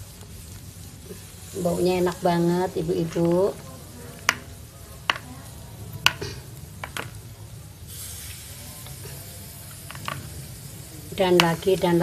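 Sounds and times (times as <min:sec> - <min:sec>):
low background noise: 0:00.0 - 0:12.0
steady high hiss: 0:00.0 - 0:12.0.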